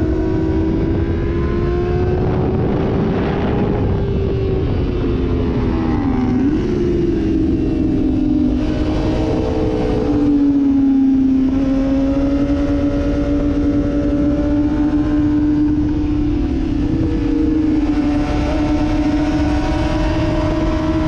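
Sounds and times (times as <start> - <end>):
motorcycle engine at high revs: 0.0 - 21.0
wind rushing over microphone: 0.0 - 21.0.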